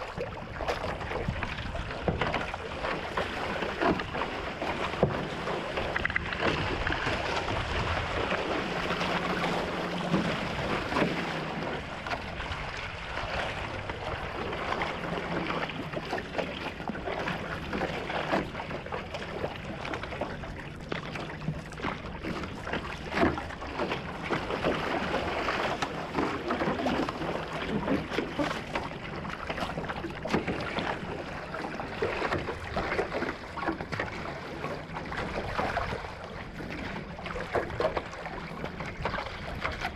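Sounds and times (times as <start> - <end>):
paddle strokes splashing: 0.0 - 39.9
water rushing along hull: 0.0 - 39.9
wind and sea hiss: 0.0 - 39.9.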